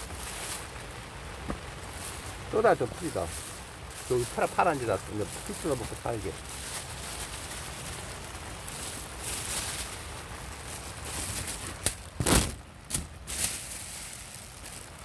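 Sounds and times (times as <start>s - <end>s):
dry grass rustling: 0.0s - 15.0s
paper bag rustling: 0.0s - 15.0s.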